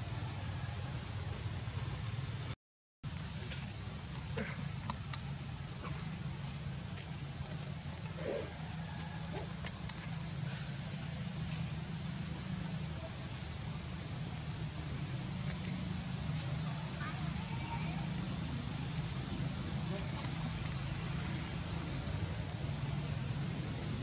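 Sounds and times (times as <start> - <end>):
insects buzzing: 0.0 - 24.0.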